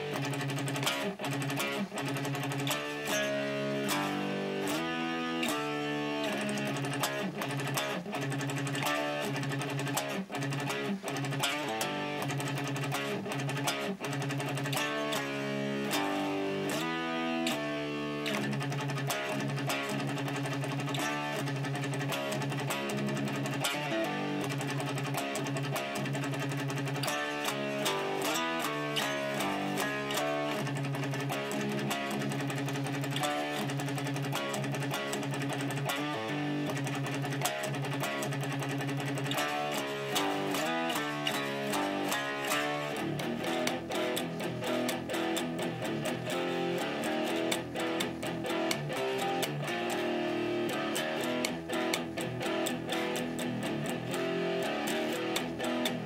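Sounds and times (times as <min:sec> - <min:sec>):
electric guitar chugging riff: 0:00.0 - 0:56.0.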